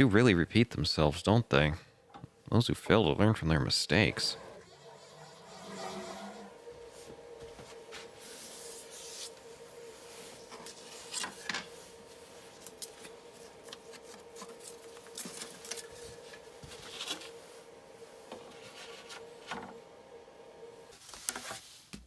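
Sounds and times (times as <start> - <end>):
faint steady hum: 0.0 - 21.4.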